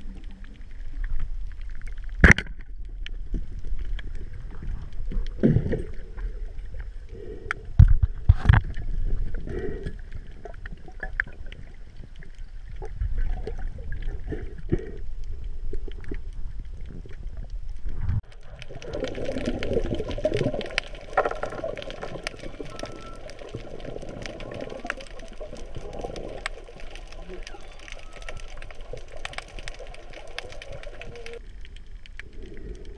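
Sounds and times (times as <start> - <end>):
dense crackle of clicks: 0.0 - 32.9
water sloshing and gurgling: 0.0 - 32.9.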